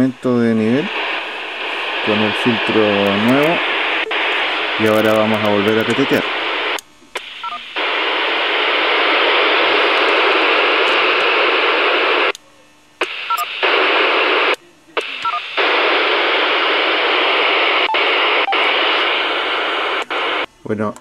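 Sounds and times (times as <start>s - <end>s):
radio static hiss: 0.0s - 20.9s.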